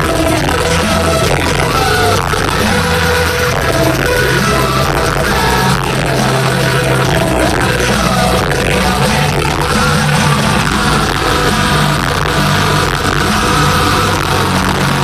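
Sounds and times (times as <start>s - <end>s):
distorted live metal band: 0.0s - 15.0s.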